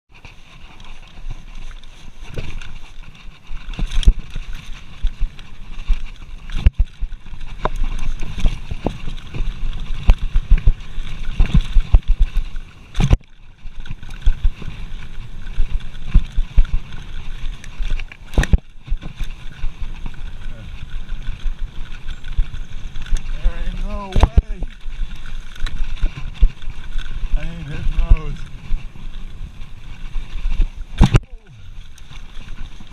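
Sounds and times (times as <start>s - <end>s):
bike tyre rumble on dirt: 0.1s - 32.9s
wind on microphone: 0.1s - 32.9s
bike knocks and rattles: 0.2s - 32.9s.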